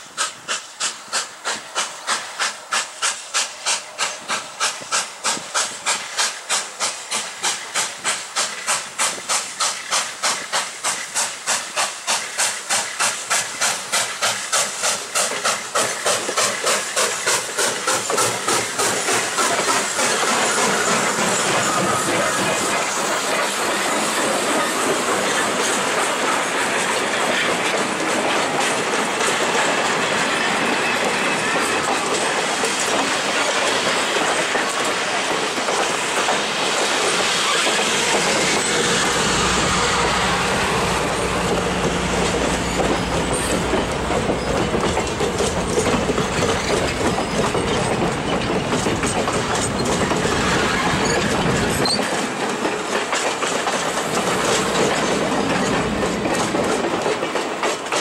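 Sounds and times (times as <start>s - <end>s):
train wheels rumbling on rails: 0.0s - 58.0s
wheels clacking over rail joints: 0.1s - 58.0s.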